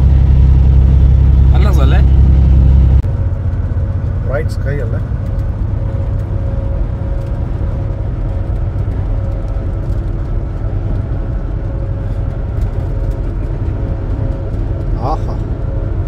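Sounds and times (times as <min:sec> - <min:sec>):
truck engine and tyre rumble: 0:00.0 - 0:16.0.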